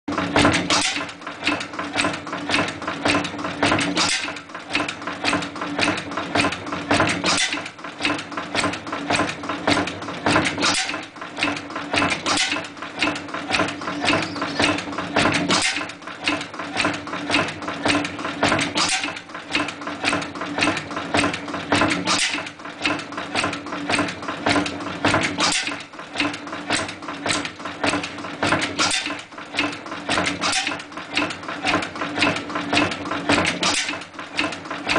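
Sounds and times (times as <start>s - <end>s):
oil engine clattering: 0.1s - 34.9s.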